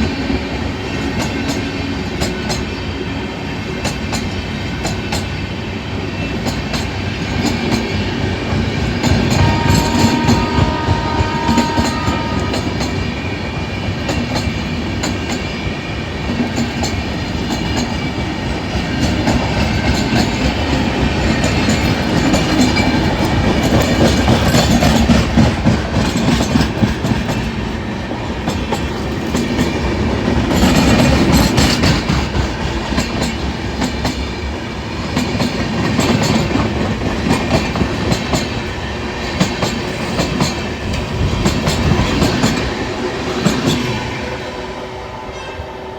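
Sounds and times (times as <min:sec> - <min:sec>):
train wheels clattering over joints: 0:06.4 - 0:44.4.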